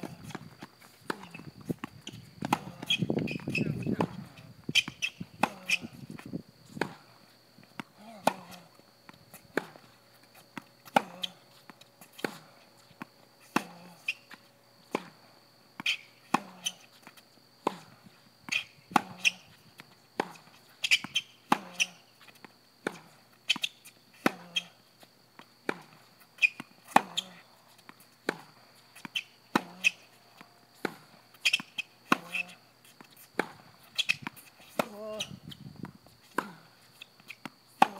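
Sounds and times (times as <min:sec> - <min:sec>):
racket hitting tennis ball: 0:00.0 - 0:07.1, 0:07.7 - 0:24.7, 0:25.6 - 0:37.9
tennis ball bouncing: 0:00.0 - 0:07.1, 0:07.7 - 0:24.7, 0:25.4 - 0:37.9.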